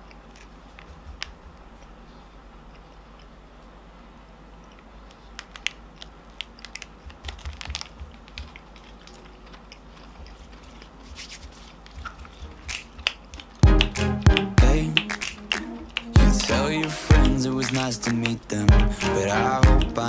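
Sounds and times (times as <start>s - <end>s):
mouth clicks and smacks chewing: 0.0s - 20.0s.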